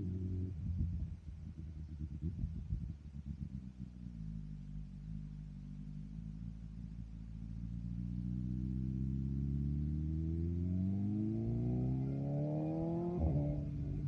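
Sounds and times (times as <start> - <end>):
motorcycle exhaust rumble: 0.0 - 14.0.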